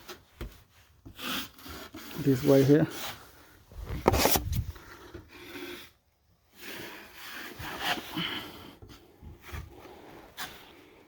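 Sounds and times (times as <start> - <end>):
drywall knife scraping compound: 0.0 - 11.0.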